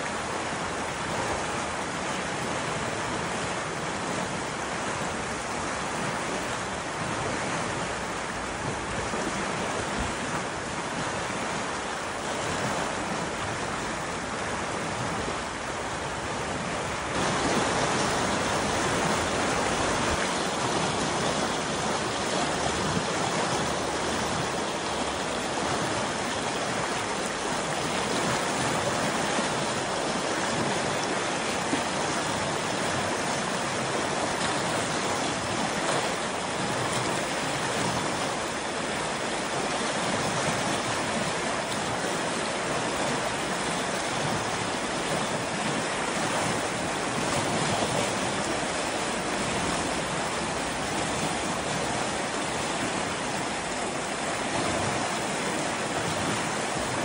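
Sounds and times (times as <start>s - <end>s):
river rushing over rapids: 0.0s - 57.0s.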